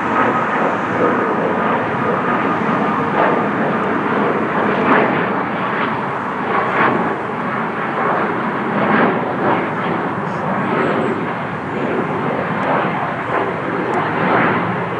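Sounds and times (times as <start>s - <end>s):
airliner engines rushing overhead: 0.0s - 14.9s.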